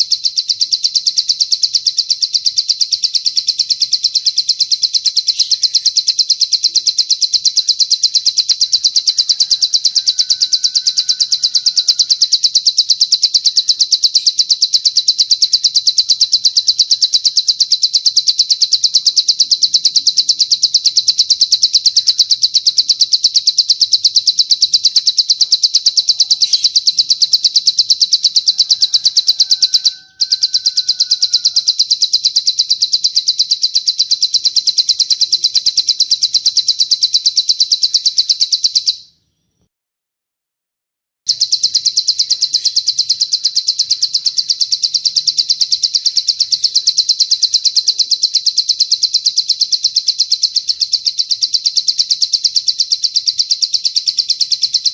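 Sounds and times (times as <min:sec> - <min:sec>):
bird song high-pitched trill: 0:00.0 - 0:39.7, 0:41.3 - 0:54.9.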